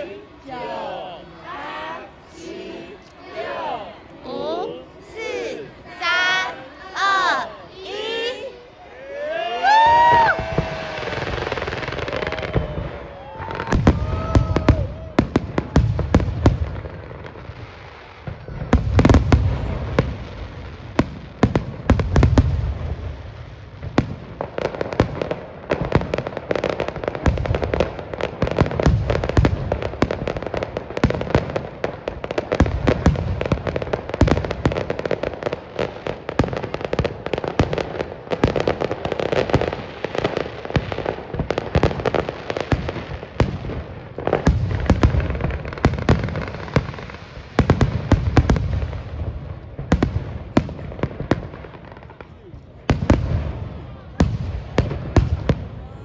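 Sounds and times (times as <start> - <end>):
fireworks crackling and popping: 5.9 - 56.0.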